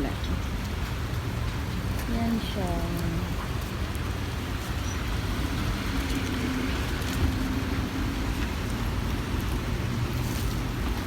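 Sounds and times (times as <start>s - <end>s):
light rain: 0.0s - 11.0s
low rumble of road traffic: 0.0s - 11.0s.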